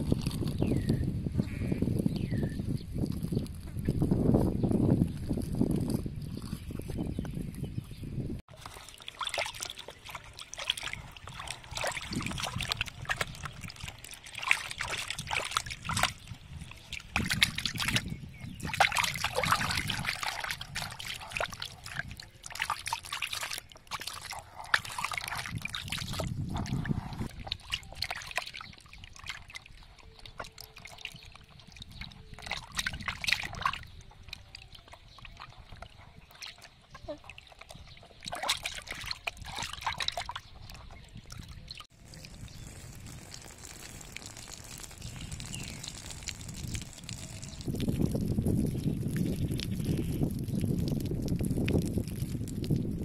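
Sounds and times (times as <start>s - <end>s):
hands washing fish in water: 8.5s - 52.8s.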